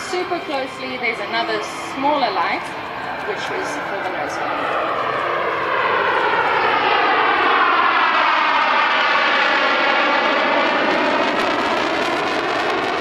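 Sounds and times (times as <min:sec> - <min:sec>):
jet engine roaring past: 0:00.0 - 0:13.0.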